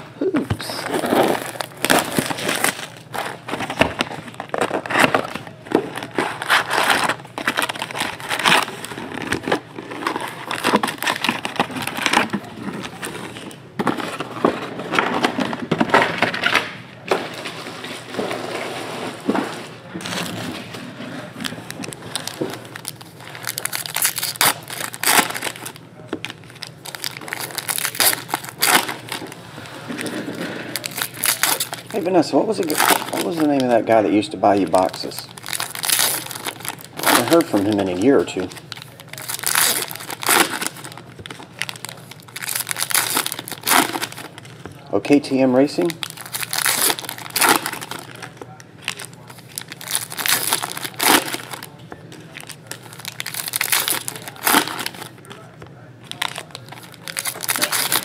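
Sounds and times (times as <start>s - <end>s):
foil packs rustling: 0.6s - 16.6s, 17.2s - 58.0s
plastic shrink wrap crinkling: 0.6s - 58.0s
foil pack tearing open: 0.7s - 13.2s, 21.4s - 29.4s, 30.0s - 33.8s, 34.5s - 44.5s, 45.6s - 58.0s.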